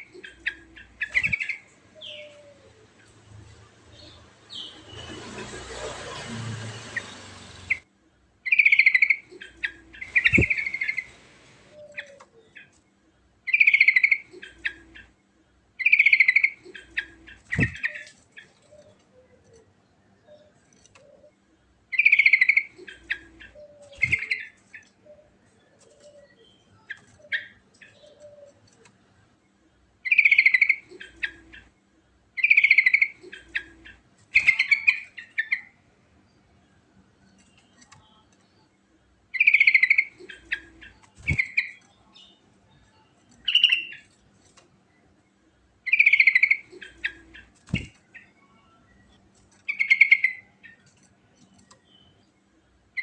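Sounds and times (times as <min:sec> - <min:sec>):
bird singing warbled phrases: 0:00.0 - 0:05.1, 0:06.8 - 0:44.2, 0:44.9 - 0:53.0.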